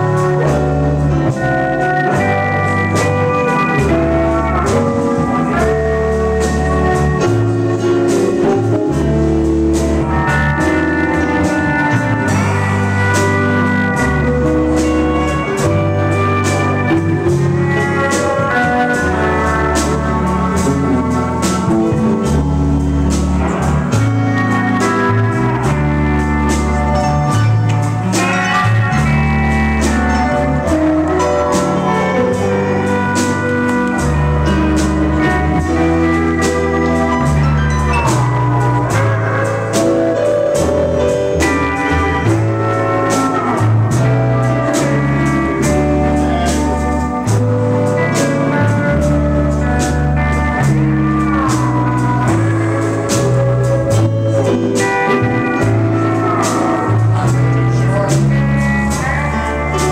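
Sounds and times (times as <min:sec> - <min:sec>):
acoustic guitar: 0:00.0 - 0:59.9
bass line: 0:00.0 - 0:59.9
drums: 0:00.0 - 0:59.9
keyboard: 0:00.0 - 0:59.9
pedal steel guitar sliding: 0:00.0 - 0:59.9.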